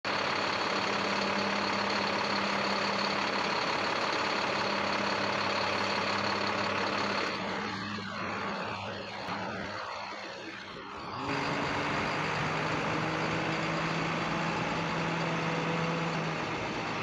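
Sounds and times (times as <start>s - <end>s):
bus diesel engine humming: 0.0s - 17.0s.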